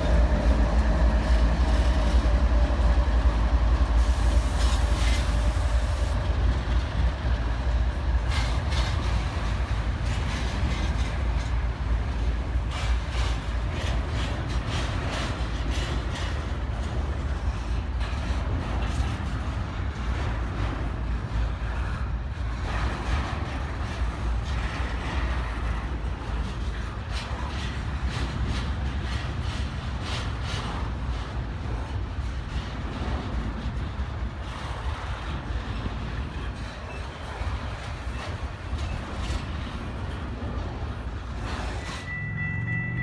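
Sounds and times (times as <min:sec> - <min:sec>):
train rolling on rails: 0:00.0 - 0:43.0.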